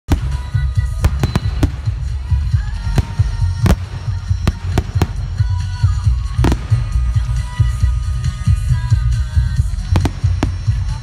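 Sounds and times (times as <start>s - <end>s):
fireworks bursting with sharp bangs: 0.1s - 11.0s.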